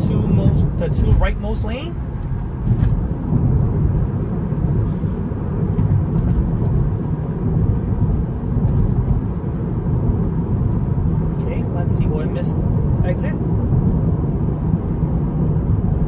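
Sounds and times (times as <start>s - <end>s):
road and tyre noise in car cabin: 0.0s - 16.0s.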